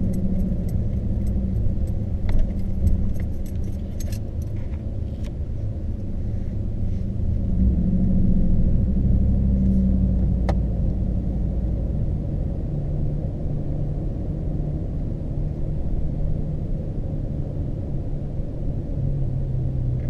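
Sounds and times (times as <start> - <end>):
car exhaust rumble: 0.0 - 20.0.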